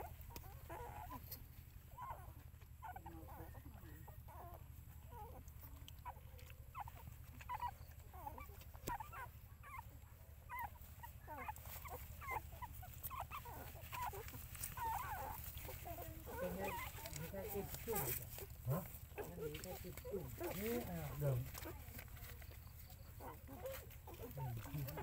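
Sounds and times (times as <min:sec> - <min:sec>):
puppies squeaking and whimpering: 0:00.0 - 0:25.0.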